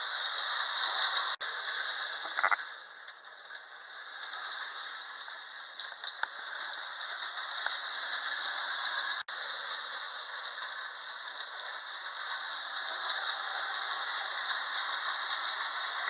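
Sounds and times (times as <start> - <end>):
toy train metallic rattle: 0.0 - 16.0.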